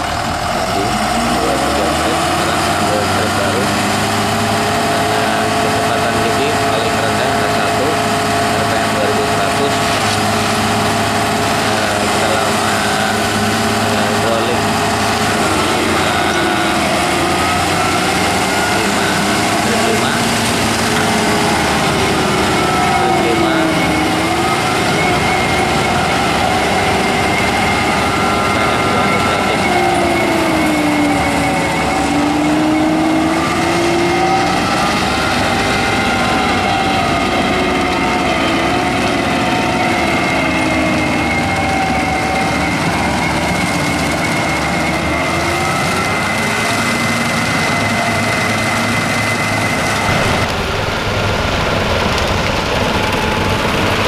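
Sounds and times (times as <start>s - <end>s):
constant high whine: 0.0s - 54.0s
tiller rotor churning soil: 0.0s - 54.0s
tractor engine under load: 0.0s - 54.0s.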